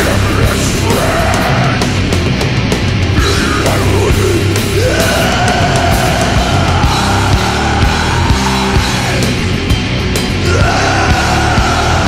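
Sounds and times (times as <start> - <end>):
death metal music: 0.0 - 12.0.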